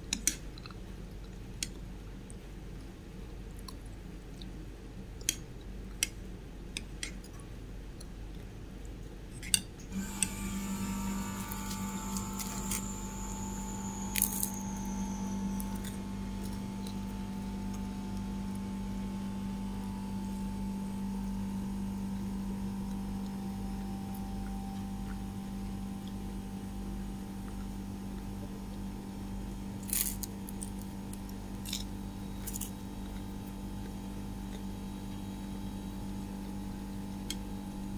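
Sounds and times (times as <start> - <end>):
two-tone steady hum: 0.0 - 37.9.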